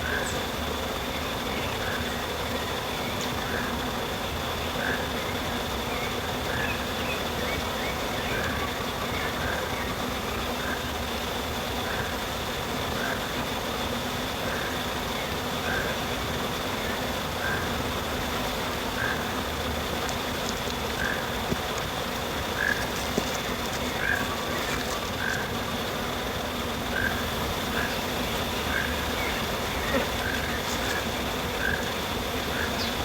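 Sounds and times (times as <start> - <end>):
forest background noise: 0.0 - 33.0
high insect drone: 0.0 - 33.0.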